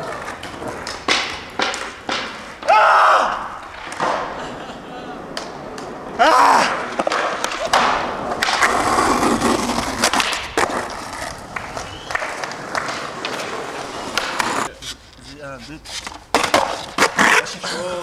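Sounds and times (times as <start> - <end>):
skateboard clacks: 0.0 - 15.0, 15.9 - 18.0
skateboard wheels rolling on asphalt: 0.0 - 18.0.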